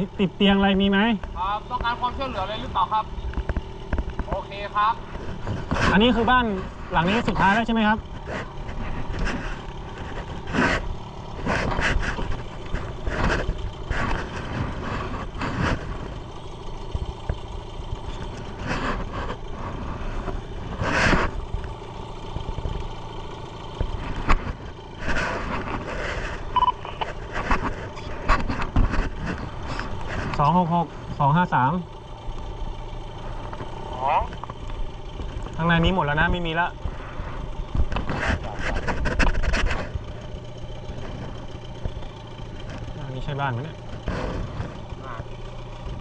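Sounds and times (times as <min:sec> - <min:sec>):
boat motor running: 0:00.0 - 0:46.0
knocks and scrapes: 0:00.0 - 0:46.0.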